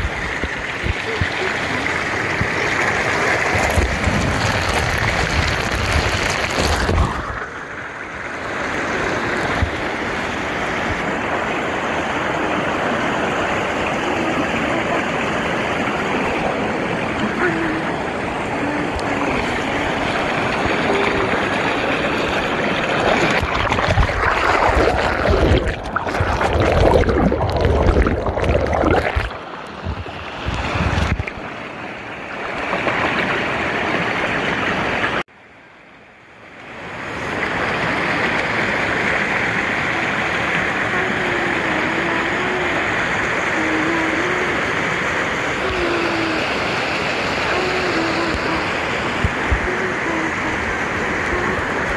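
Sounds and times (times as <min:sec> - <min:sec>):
water rushing over rocks: 0:00.0 - 0:35.3, 0:36.6 - 0:51.9.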